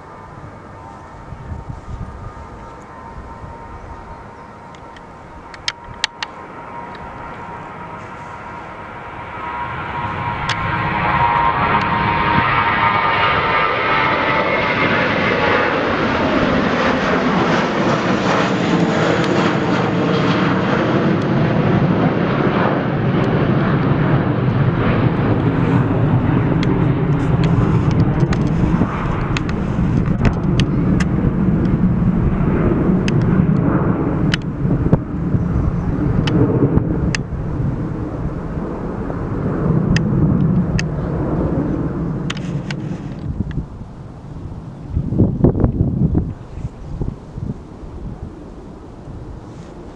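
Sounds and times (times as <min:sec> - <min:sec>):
jet engines roaring: 0:00.0 - 0:49.9.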